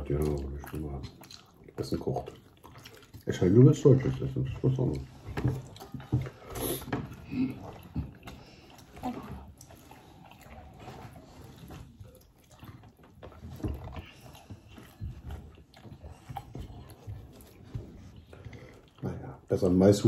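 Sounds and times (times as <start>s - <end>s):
people chewing and smacking: 0.0s - 20.0s.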